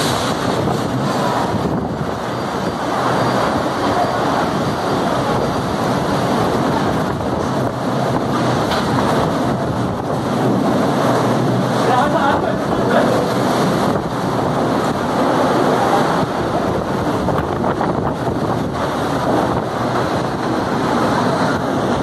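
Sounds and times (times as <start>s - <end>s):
torrential rain: 0.0s - 22.0s
wind buffeting microphone: 0.0s - 22.0s.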